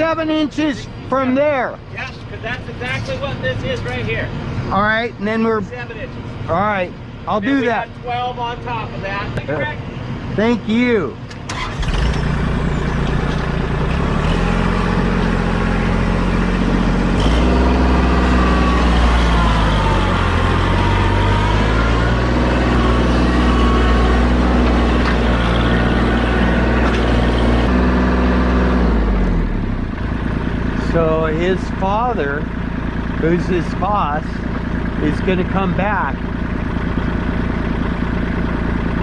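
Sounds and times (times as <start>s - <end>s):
heavy vehicle engine running: 0.0s - 39.0s.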